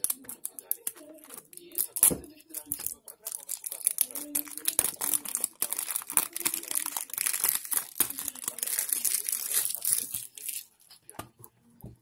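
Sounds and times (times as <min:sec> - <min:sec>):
plastic wrapping crinkling: 0:00.0 - 0:11.2.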